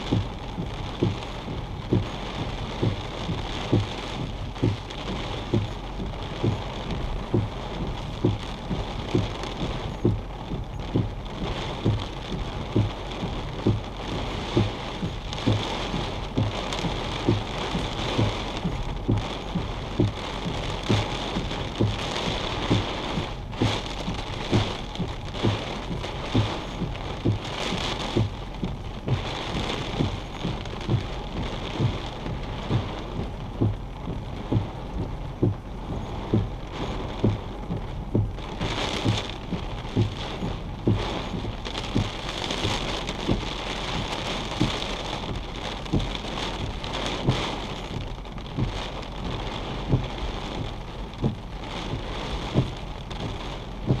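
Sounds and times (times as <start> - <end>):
heavy rain on a vehicle: 0.0 - 54.0
short low thumps: 0.0 - 54.0.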